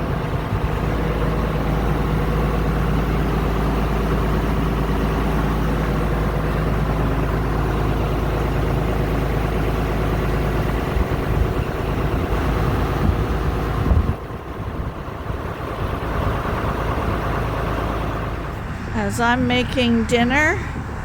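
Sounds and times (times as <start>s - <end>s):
snowblower engine running: 0.0s - 21.0s.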